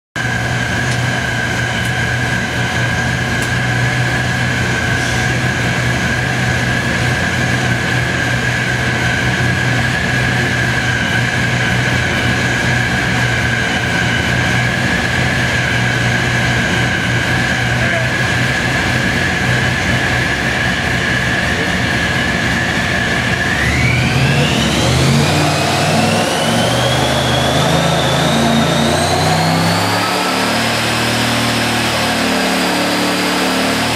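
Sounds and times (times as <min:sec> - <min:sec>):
boat engine running: 0:00.2 - 0:33.9
supercharger whine: 0:00.2 - 0:33.9.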